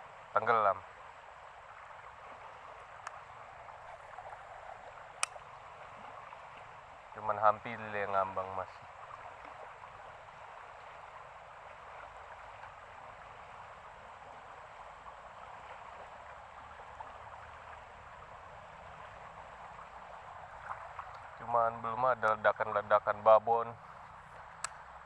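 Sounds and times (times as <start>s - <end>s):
flowing water rushing: 0.0s - 25.0s.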